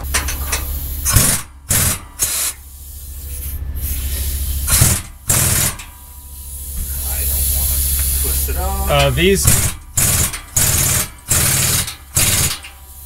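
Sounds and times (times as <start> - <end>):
steady low hum: 0.0 - 13.0
air tool hissing: 0.4 - 13.0.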